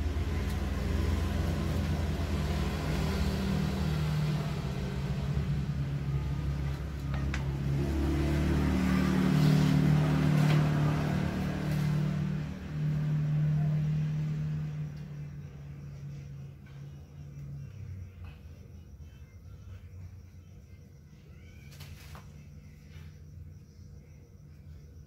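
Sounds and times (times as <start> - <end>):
engine running with low hum: 0.0 - 25.0.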